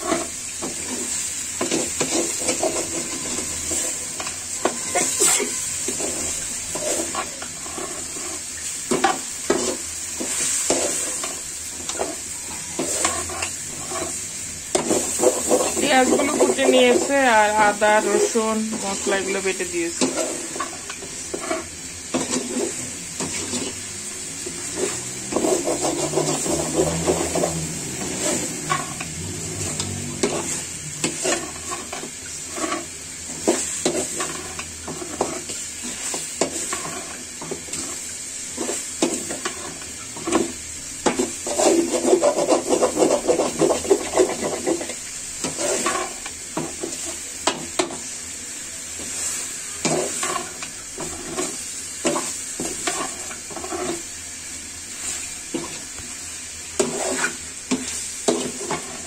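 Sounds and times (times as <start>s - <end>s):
metal spoon scraping a pan: 0.0s - 48.1s, 48.9s - 54.1s, 56.6s - 59.0s
food sizzling: 0.0s - 59.0s.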